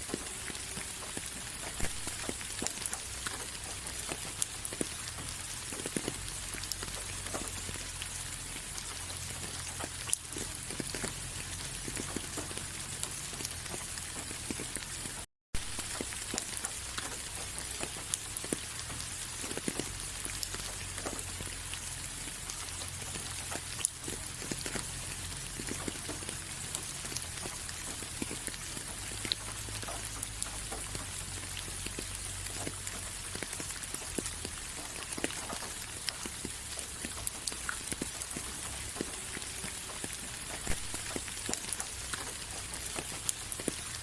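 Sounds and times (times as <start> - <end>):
rain drops tapping: 0.0 - 44.0.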